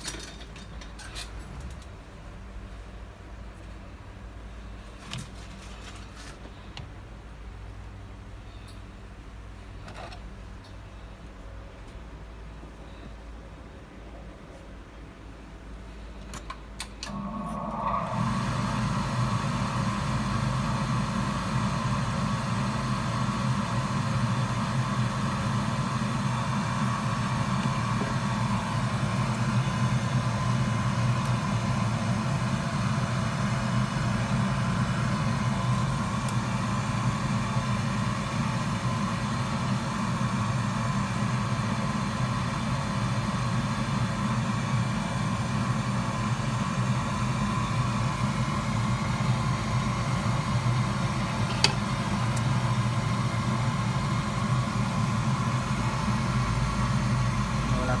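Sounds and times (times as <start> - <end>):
machine whirring hum: 0.0 - 58.0.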